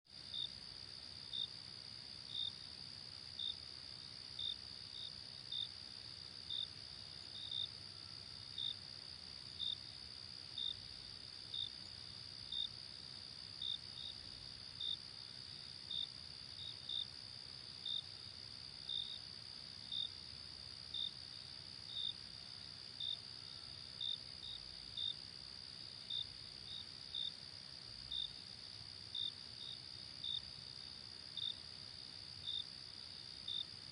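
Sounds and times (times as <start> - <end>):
cricket chirps: 0.1 - 33.9.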